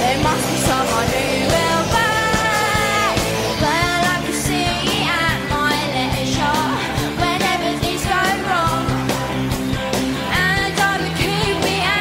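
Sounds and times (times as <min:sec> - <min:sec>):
steady drum beat: 0:00.0 - 0:11.8
guitar: 0:00.0 - 0:12.0
live pop-rock band playing: 0:00.0 - 0:12.0.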